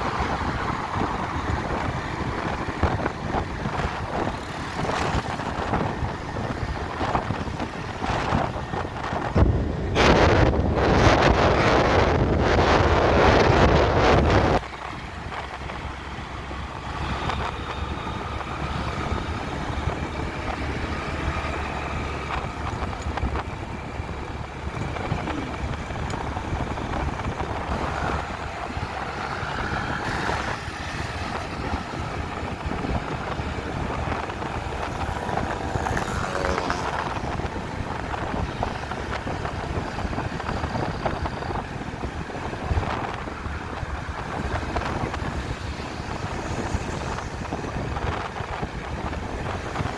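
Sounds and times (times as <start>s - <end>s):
traffic rumble: 0.0s - 49.9s
vehicles passing: 0.0s - 49.9s
wind on microphone: 0.0s - 49.9s.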